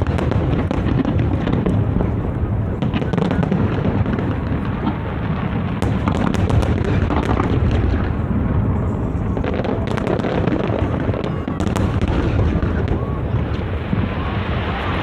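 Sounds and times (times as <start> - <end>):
distant fireworks rumble: 0.0 - 15.0
fireworks crackling and popping: 0.0 - 15.0.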